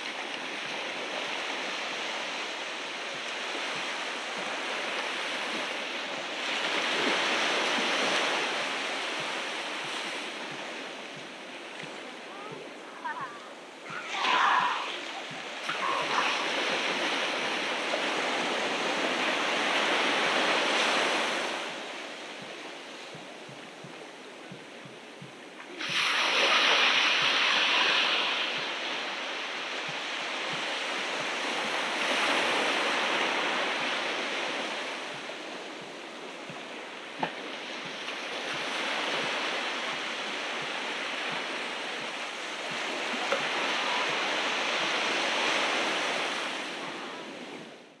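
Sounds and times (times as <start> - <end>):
ocean waves washing onto beach: 0.0 - 48.0.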